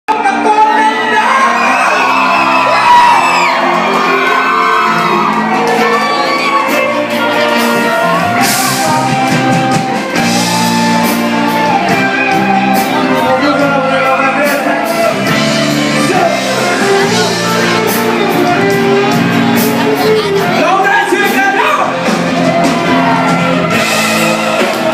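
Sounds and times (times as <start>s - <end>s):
live band with singing: 0.1s - 24.9s.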